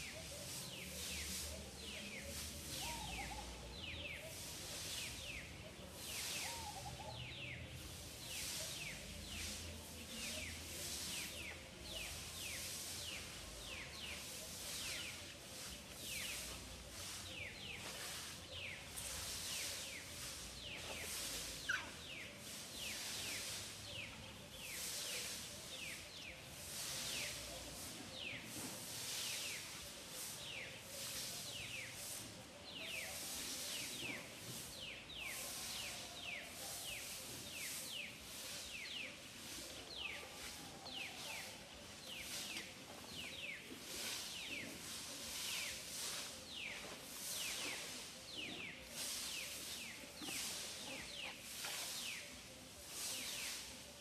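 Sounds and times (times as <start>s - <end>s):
pulsing high hiss of animals: 0.0s - 54.0s.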